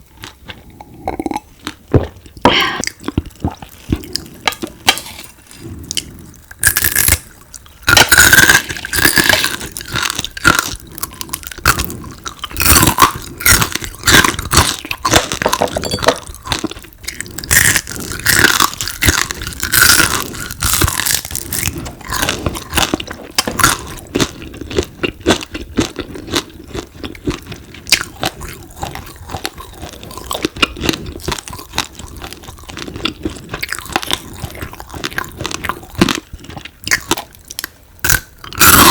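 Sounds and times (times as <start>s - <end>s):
crunching and chewing crispy food: 0.0s - 38.9s.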